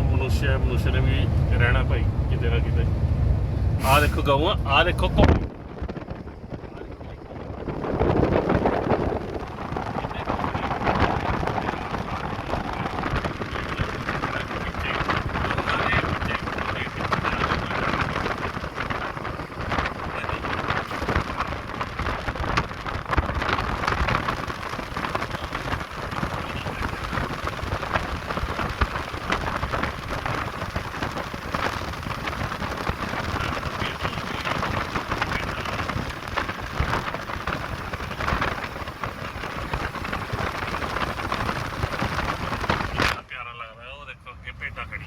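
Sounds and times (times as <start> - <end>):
wind crackling on microphone: 0.0 - 43.3
low road rumble: 0.0 - 45.0.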